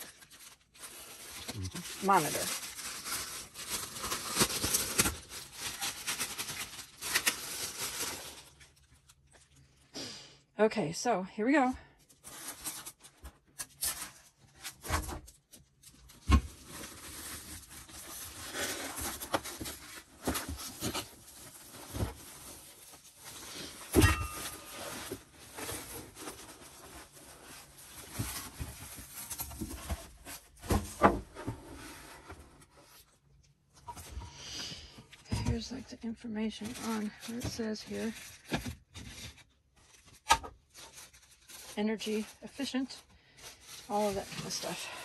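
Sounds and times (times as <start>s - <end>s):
styrofoam and plastic bag rustling: 0.0s - 9.8s, 12.1s - 45.0s.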